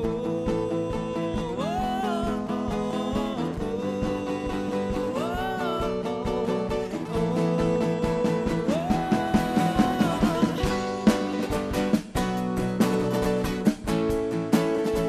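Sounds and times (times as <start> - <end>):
country band with guitar: 0.0 - 15.0.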